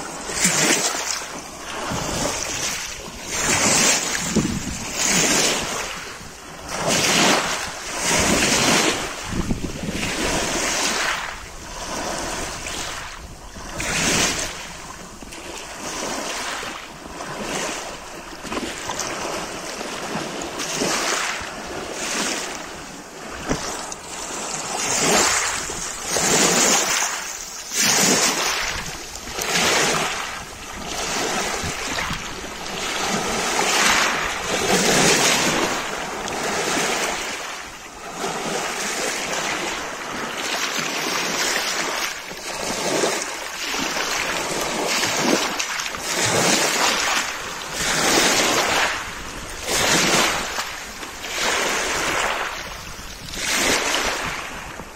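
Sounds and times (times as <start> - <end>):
waves washing over pebbles: 0.0 - 54.9.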